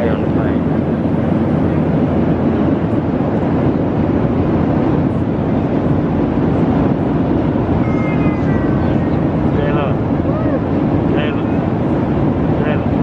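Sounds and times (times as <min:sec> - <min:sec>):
airliner cabin engine rush: 0:00.0 - 0:13.0.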